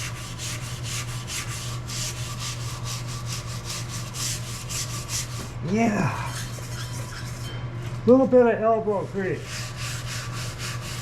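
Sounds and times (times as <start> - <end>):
wire brush scrubbing metal: 0.0 - 5.5, 6.2 - 7.6, 8.7 - 11.0.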